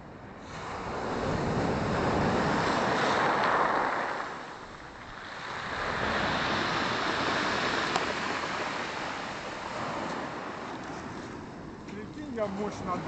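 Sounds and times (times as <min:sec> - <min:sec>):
waves breaking on shore: 0:00.4 - 0:13.0.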